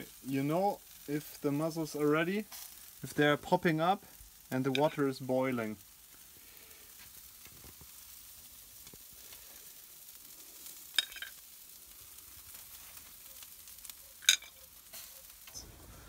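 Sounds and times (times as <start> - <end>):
shellfish sizzling on a grill: 0.0 - 16.0.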